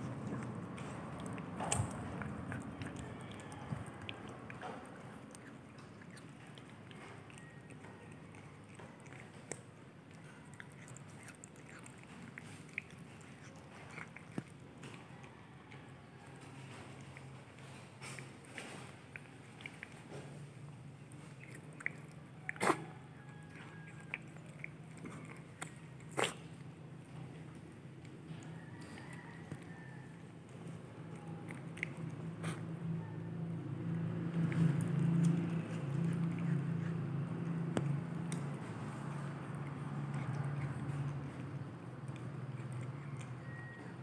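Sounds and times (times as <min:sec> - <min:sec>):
cat chewing: 0:00.0 - 0:44.0.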